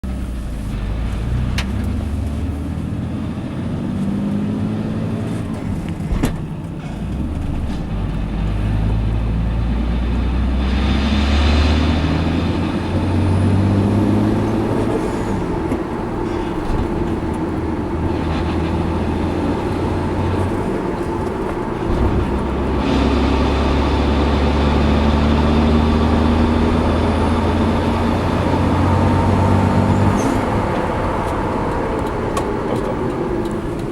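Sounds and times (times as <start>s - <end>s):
car engine revving: 0.0s - 33.9s
rattle from car: 5.2s - 33.9s.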